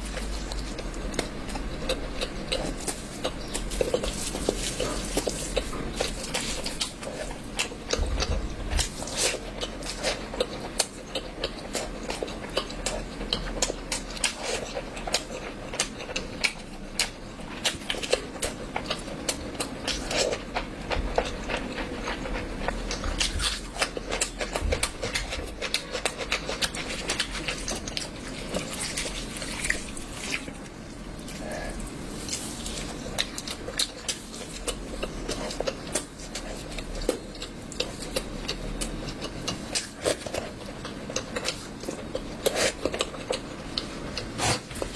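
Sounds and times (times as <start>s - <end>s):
person chewing and smacking: 0.0s - 44.9s.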